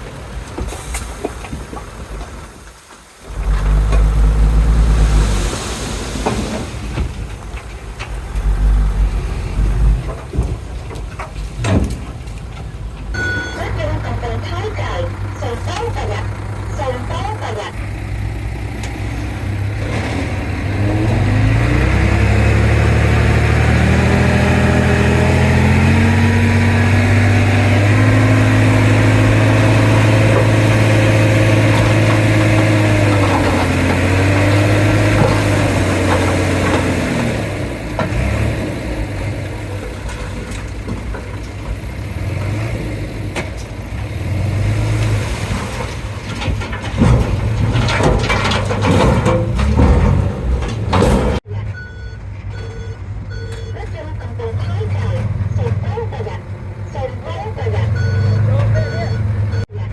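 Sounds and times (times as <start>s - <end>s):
bulldozer diesel engine working: 0.0s - 59.9s.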